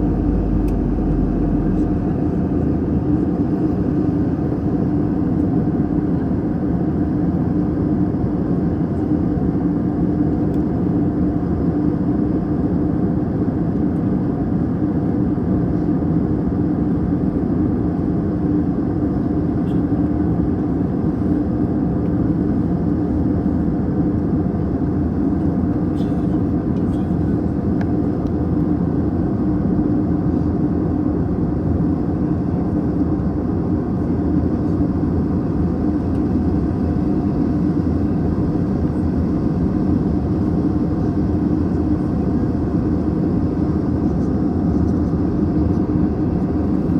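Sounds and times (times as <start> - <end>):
constant low hum: 0.0 - 46.9
jet engine and airflow roar: 0.0 - 46.9.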